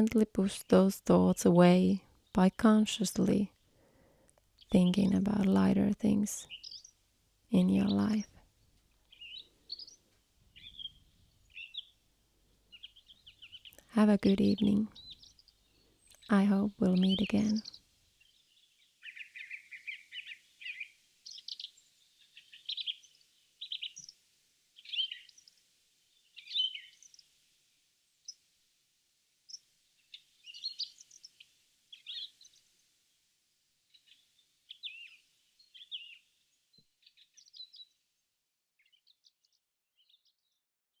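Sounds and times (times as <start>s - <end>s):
small songbirds chirping: 0.0s - 28.6s, 29.4s - 33.2s, 33.8s - 40.6s.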